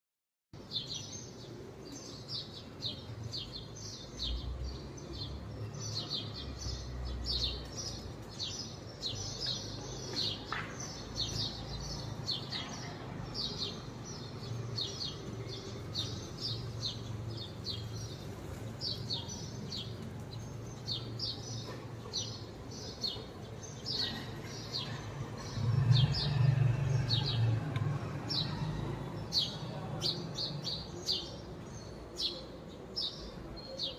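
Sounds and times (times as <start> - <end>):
small birds chirping: 0.6 - 33.9.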